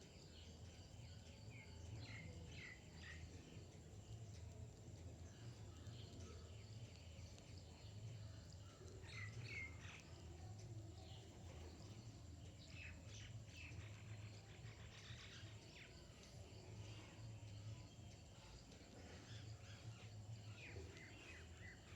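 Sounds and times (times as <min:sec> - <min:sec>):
low steady hum: 0:00.0 - 0:21.9
small birds chirping: 0:00.0 - 0:21.9.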